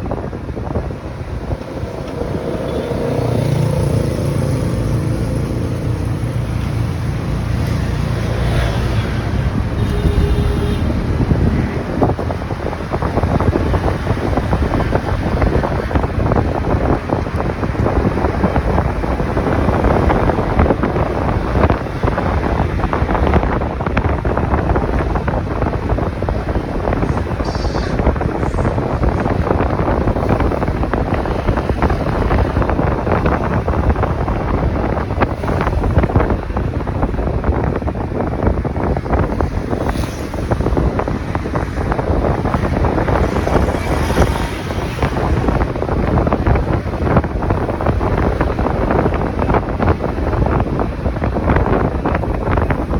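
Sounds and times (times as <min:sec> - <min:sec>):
motorcycle running: 0:00.0 - 0:52.9
wind buffeting microphone: 0:00.0 - 0:52.9.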